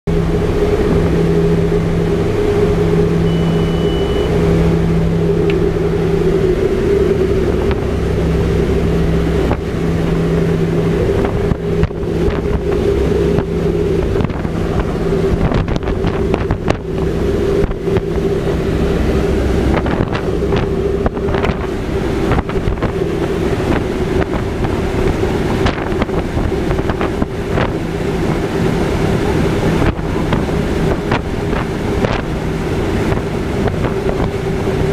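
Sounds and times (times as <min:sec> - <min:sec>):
turboprop engines droning: 0:00.1 - 0:34.9
wind rushing: 0:00.4 - 0:34.9
wind buffeting microphone: 0:04.3 - 0:34.9.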